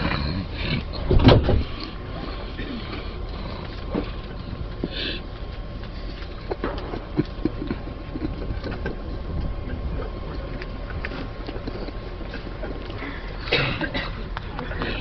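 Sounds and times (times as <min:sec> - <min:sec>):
moving train rumble: 0:00.0 - 0:15.0.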